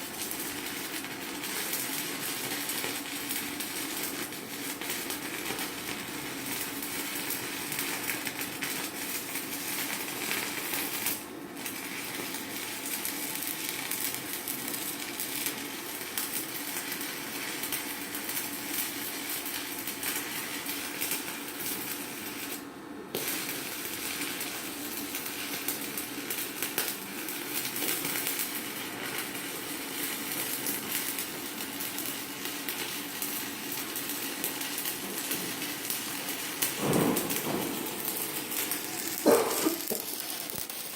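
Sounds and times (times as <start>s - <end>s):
welding arc crackling: 0.0s - 40.9s.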